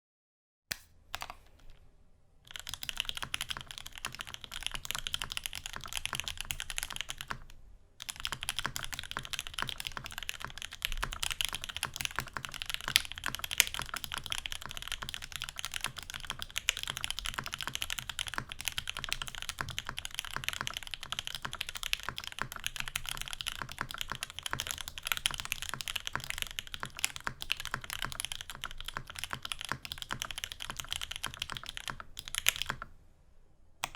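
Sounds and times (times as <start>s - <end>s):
fast mechanical keyboard typing: 2.5s - 32.9s.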